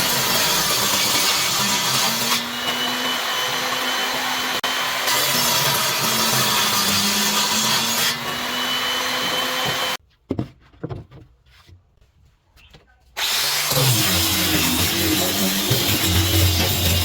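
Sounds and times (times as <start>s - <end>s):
power tool on wood: 0.0s - 10.0s, 13.2s - 17.0s.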